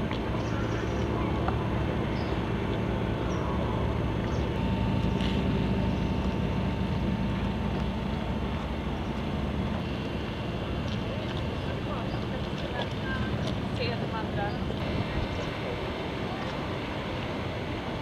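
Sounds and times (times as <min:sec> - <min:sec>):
boat engines droning: 0:00.0 - 0:18.0.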